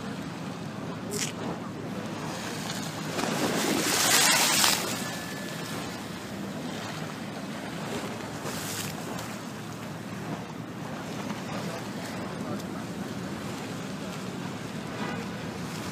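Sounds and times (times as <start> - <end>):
sea water washing against shore: 0.0 - 15.9.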